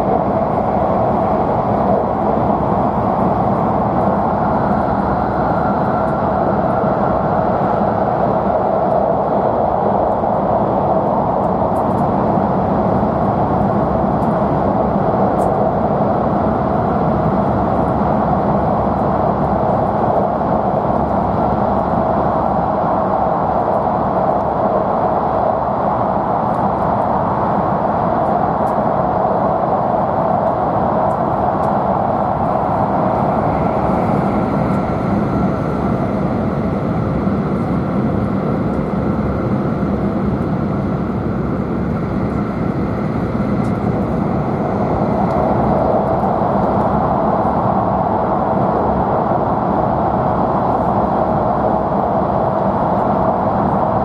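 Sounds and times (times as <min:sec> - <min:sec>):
train wheels on rail in tunnel: 0:00.0 - 0:54.0.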